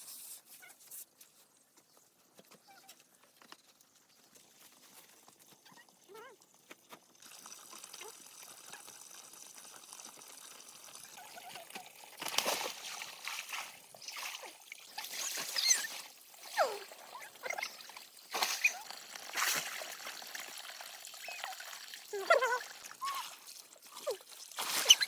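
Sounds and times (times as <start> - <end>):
water pouring and splashing: 3.3 - 25.0.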